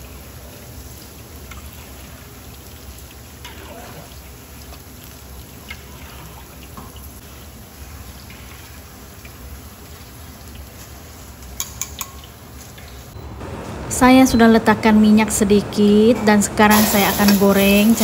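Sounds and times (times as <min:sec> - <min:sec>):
food deep-frying in hot oil: 0:00.0 - 0:13.2, 0:16.7 - 0:18.0.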